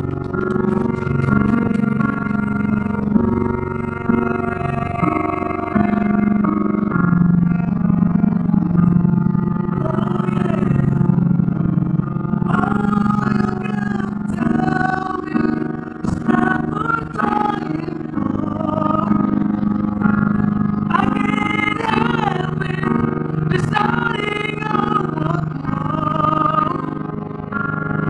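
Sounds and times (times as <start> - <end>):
person singing: 0.0 - 11.5, 12.3 - 27.2
accompanying music: 0.0 - 28.0.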